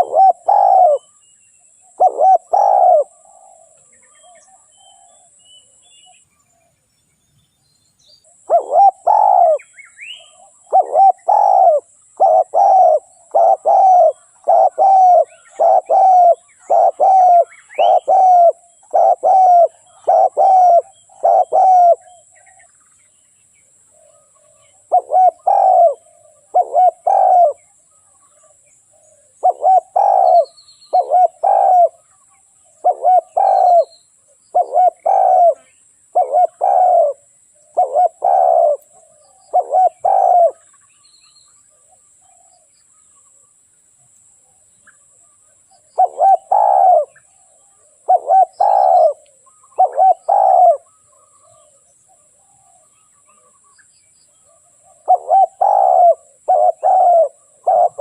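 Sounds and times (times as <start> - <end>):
dove cooing: 0.0 - 1.2, 1.8 - 5.4, 8.3 - 22.6, 23.9 - 40.8, 45.7 - 53.7, 54.4 - 58.0.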